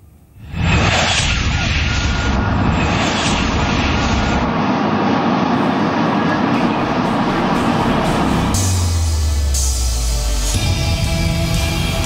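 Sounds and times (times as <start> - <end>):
train rushing past: 0.3 - 12.0.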